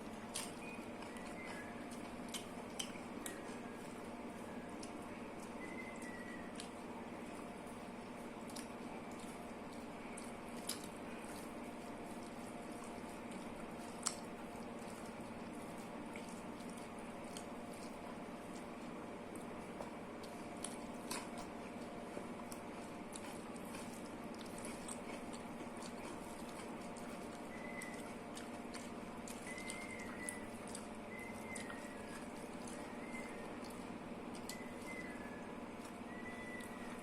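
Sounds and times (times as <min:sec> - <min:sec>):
soft wet chewing: 0:00.0 - 0:37.0
steady low hum: 0:00.0 - 0:37.0.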